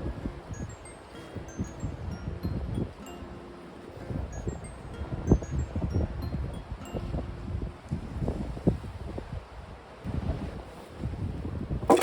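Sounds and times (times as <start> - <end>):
wind buffeting microphone: 0.0 - 3.0, 3.9 - 12.0.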